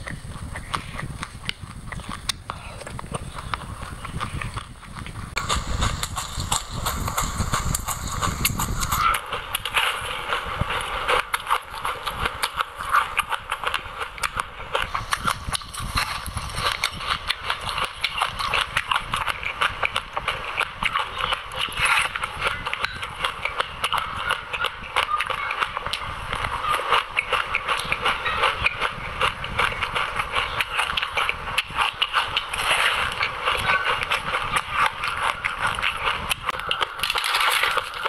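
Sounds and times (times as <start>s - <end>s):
chewing crunchy seeds: 0.0s - 38.0s.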